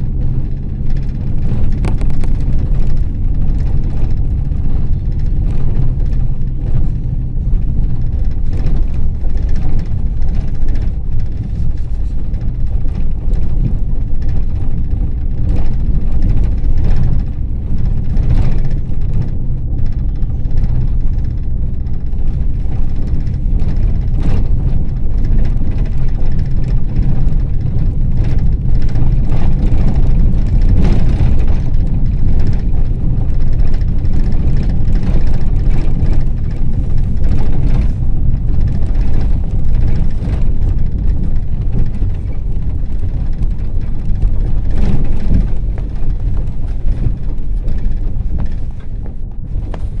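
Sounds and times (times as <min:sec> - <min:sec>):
engine and road rumble: 0:00.0 - 0:50.0
rattles and knocks over bumps: 0:00.0 - 0:50.0.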